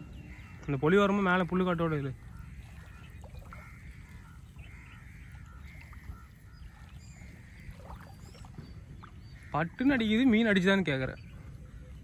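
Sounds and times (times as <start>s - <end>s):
distant birds calling: 0.0s - 12.0s.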